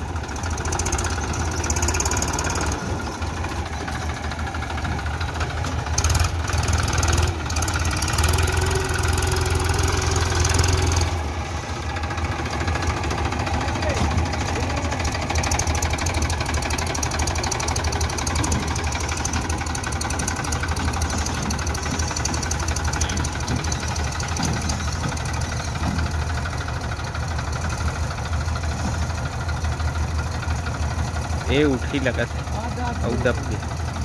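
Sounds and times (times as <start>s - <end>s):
backhoe diesel engine running: 0.0s - 34.0s
tractor diesel engine clatter: 0.0s - 34.0s.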